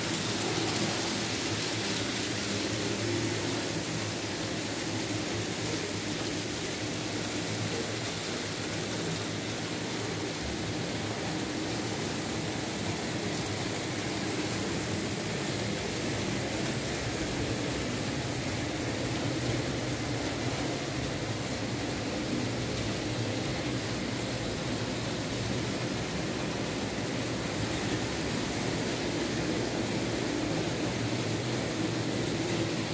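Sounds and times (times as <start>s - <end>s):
model train running on rails: 0.0s - 32.9s.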